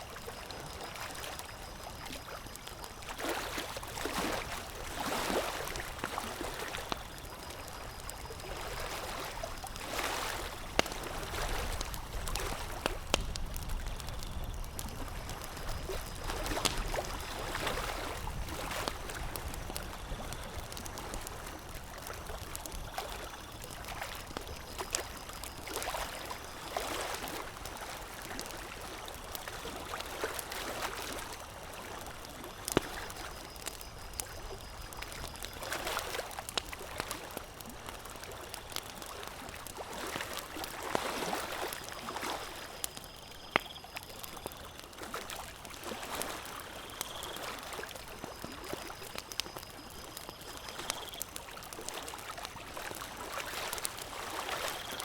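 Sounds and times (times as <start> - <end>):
campfire crackling: 0.0 - 55.0
water lapping and splashing: 0.1 - 43.0, 44.1 - 55.0.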